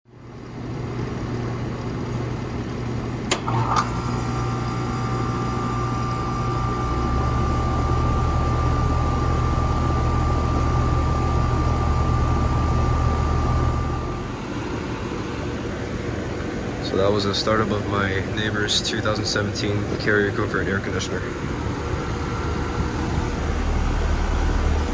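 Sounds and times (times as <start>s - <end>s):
air conditioner humming: 0.1s - 24.9s
steady whine: 2.8s - 24.9s.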